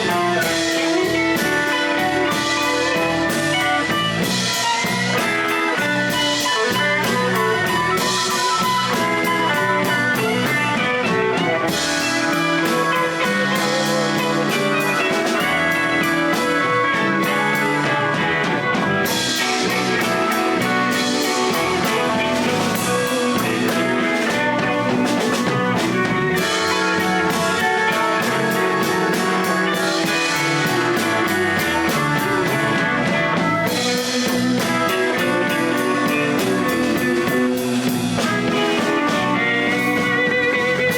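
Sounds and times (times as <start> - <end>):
bass guitar: 0.0 - 40.9
drum kit: 0.0 - 40.9
electric guitar: 0.0 - 40.9.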